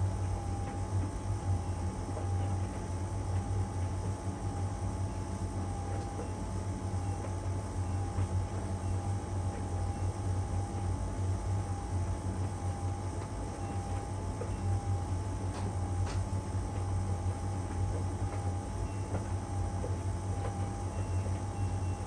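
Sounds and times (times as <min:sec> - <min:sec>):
dryer humming and whining: 0:00.0 - 0:22.0.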